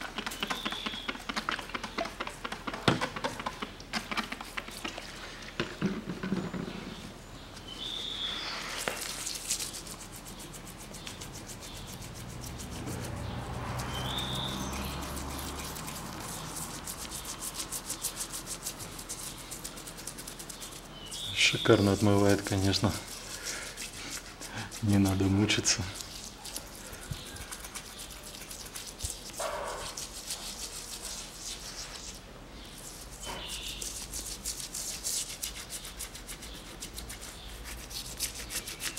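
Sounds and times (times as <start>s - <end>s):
rough scratching with fast ticks: 0.0s - 5.5s, 7.9s - 38.9s.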